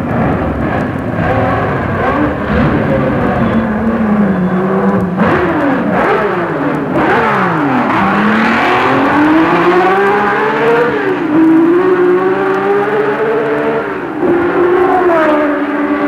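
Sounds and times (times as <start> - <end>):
racing engine revving: 0.0 - 16.0.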